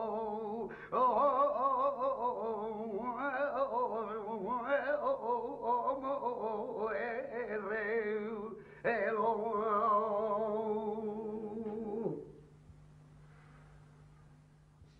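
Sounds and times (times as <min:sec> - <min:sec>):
man singing ornamented vocal: 0:00.0 - 0:12.3
faint steady hum: 0:00.0 - 0:14.9.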